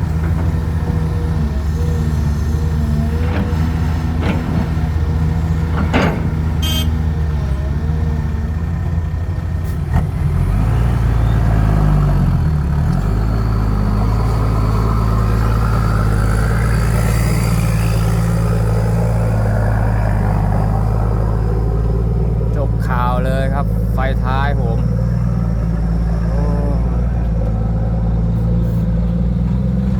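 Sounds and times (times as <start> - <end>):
heavy diesel engine running: 0.0 - 29.9.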